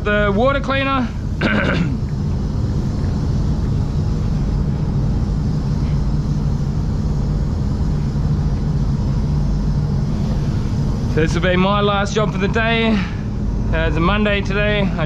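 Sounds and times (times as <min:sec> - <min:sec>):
extraction fans low rumble: 0:00.0 - 0:15.0.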